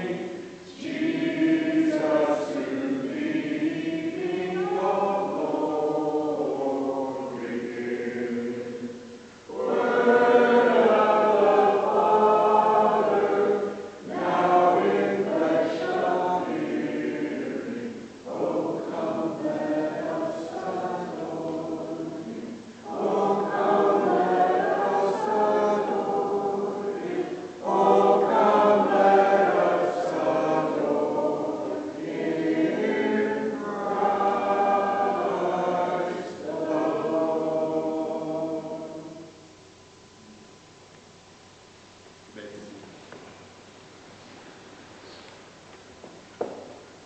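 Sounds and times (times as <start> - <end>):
congregation singing a hymn: 0.0 - 40.1.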